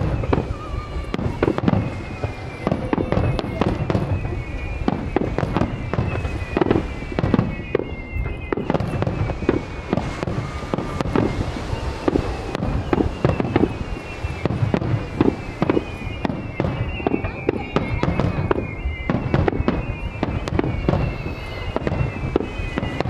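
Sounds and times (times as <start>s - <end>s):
fireworks booming and cracking: 0.0s - 23.0s.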